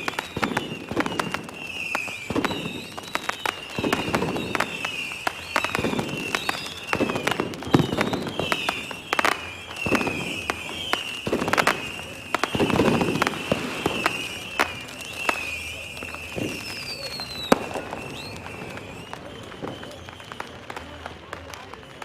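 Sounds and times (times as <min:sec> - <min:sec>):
high wavering whistle: 0:00.0 - 0:20.7
falling whistle: 0:00.0 - 0:20.9
fireworks bangs and cracks: 0:00.0 - 0:22.0
fireworks booms: 0:00.0 - 0:22.0.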